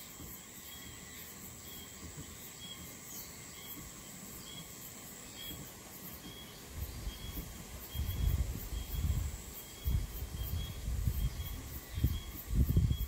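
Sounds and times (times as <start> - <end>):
insects buzzing and chirping: 0.0 - 13.0.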